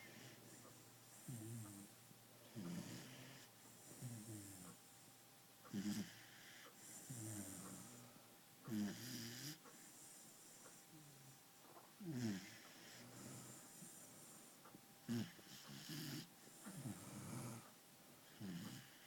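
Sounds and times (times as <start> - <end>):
pet snoring: 0.0 - 4.8, 5.7 - 11.1, 12.0 - 14.1, 15.0 - 19.0.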